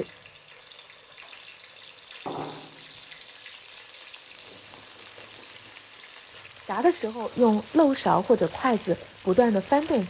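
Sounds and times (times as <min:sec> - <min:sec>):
oil sizzling and crackling: 0:00.0 - 0:10.0.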